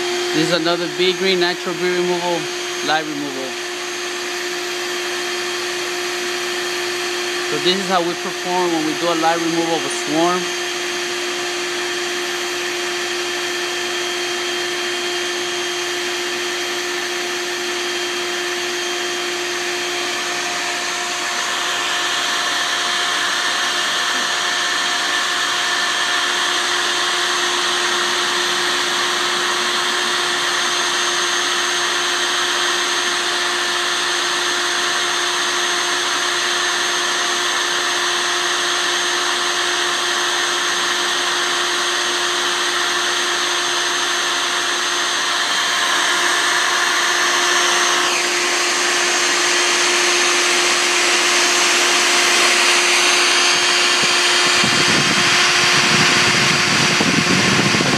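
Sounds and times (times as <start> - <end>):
vacuum whining with rushing air: 0.0 - 57.9.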